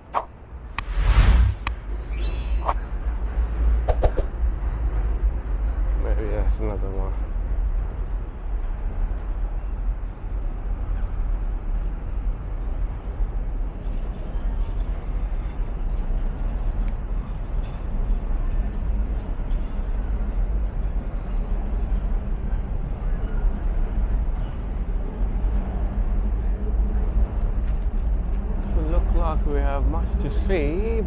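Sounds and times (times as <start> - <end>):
low city rumble: 0.0 - 31.0.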